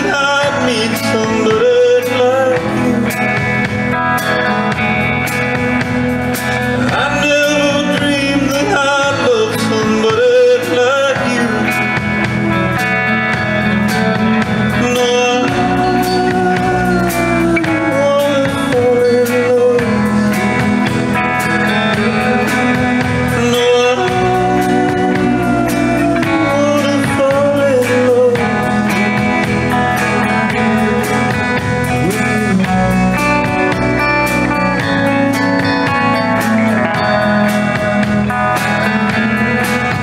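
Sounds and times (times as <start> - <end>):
man singing: 0.0 - 4.8, 6.3 - 40.0
electric guitar: 0.0 - 40.0
steady drum beat: 0.0 - 40.0.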